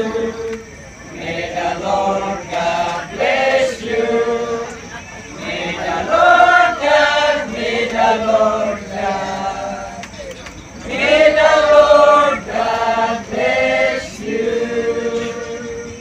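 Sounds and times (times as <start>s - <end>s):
group of voices chanting: 0.0s - 16.0s.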